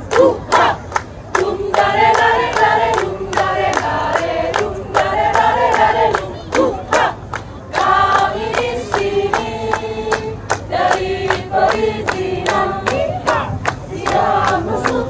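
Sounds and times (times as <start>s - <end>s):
hands clapping: 0.0s - 15.0s
women singing in unison: 0.0s - 15.0s.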